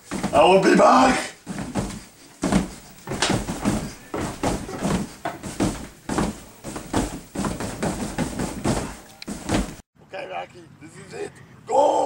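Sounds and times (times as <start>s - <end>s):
fists punching mattress: 0.0s - 9.8s.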